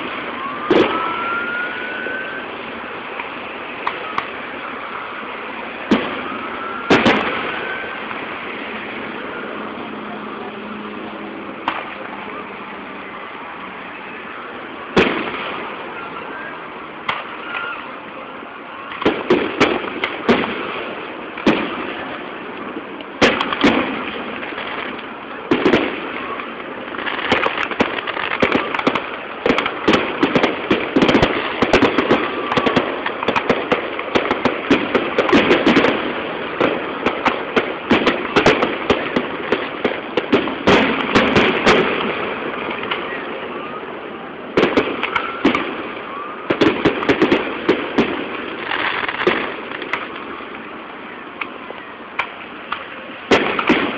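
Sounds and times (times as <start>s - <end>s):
firework bursts: 0.0s - 53.9s
firework crackling reports: 0.0s - 53.9s.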